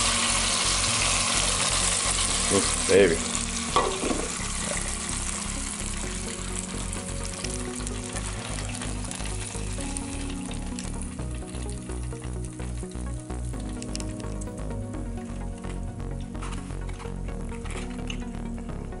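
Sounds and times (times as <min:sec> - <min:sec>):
sausage sizzling: 0:00.0 - 0:18.9
background music: 0:00.0 - 0:19.0.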